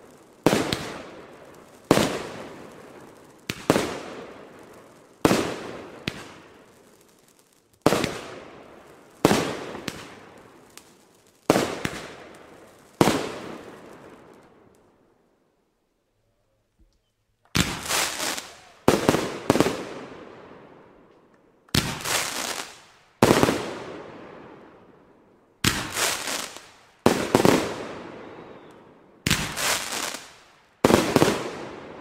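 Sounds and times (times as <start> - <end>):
fireworks bangs echoing: 0.0 - 14.6, 17.5 - 20.8, 21.7 - 24.8, 25.6 - 32.0.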